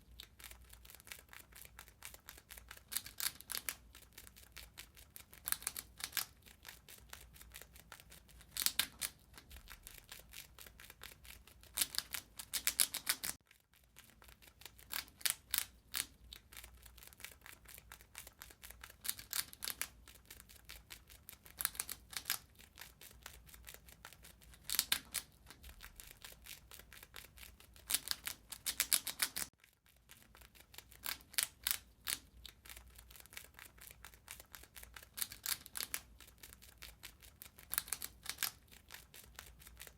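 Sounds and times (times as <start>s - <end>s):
rat gnawing and chewing: 0.0s - 39.9s.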